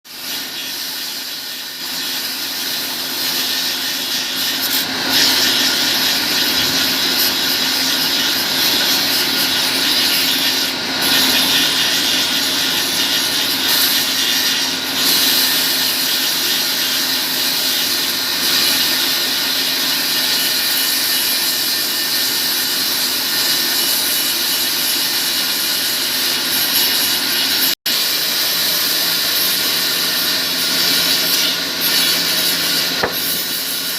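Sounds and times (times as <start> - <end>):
sawmill hissing sawing noise: 0.1 - 33.9.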